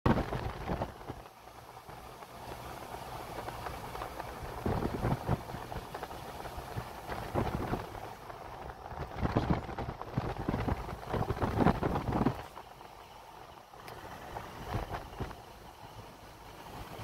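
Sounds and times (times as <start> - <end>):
wind gusting over microphone: 0.1 - 17.0.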